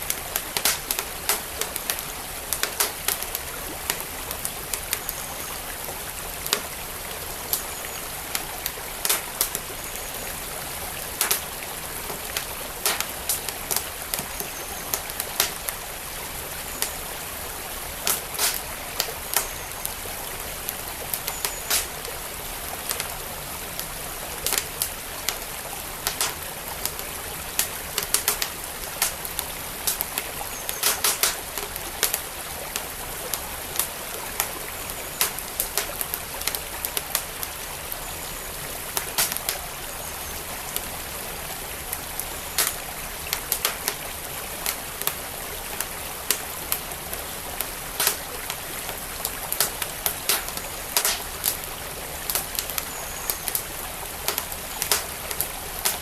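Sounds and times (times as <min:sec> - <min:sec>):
wood fire crackling and popping: 0:00.0 - 0:39.8, 0:40.4 - 0:56.0
stream water flowing: 0:00.0 - 0:56.0.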